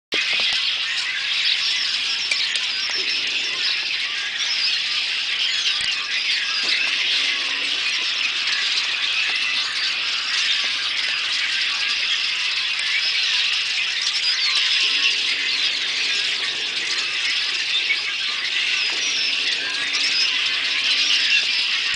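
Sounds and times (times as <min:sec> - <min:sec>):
flock of birds chirping: 0:00.1 - 0:21.9.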